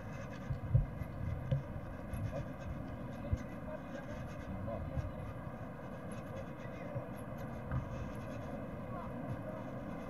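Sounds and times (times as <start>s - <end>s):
film soundtrack hiss and hum: 0.0s - 10.0s
wind rumbling on microphone: 0.0s - 10.0s.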